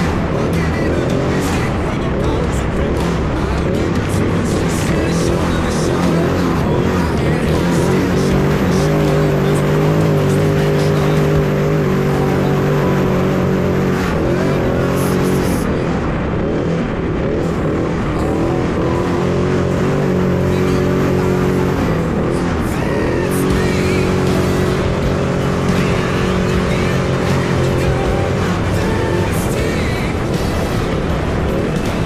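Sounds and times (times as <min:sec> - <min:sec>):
music: 0:00.0 - 0:32.0
race car engine revving: 0:00.0 - 0:32.0.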